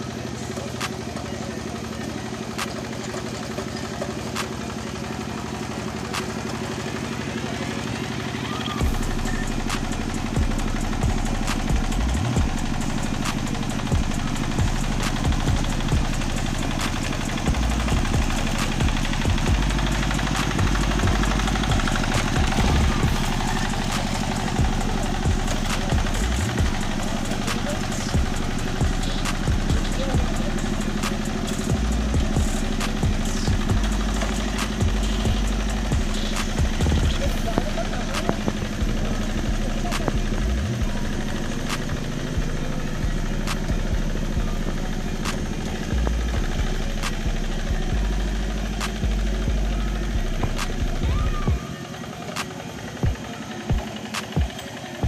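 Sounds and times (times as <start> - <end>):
hand tractor engine running: 0.0 - 55.0.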